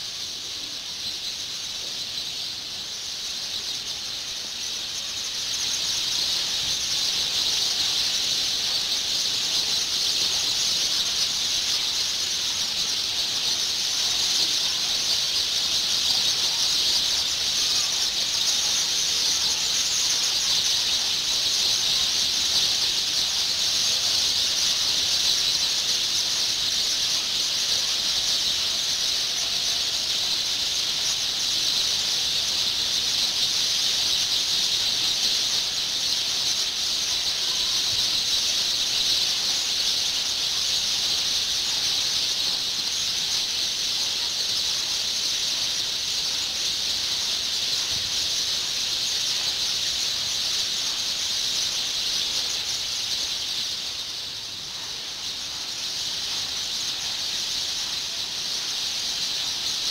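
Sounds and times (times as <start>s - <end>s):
flock of sparrows chirping: 0.0s - 59.9s.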